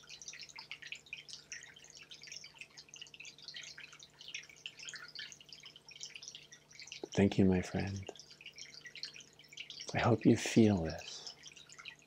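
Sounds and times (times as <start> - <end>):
low steady hum: 0.0 - 12.0
water dripping: 0.0 - 12.0.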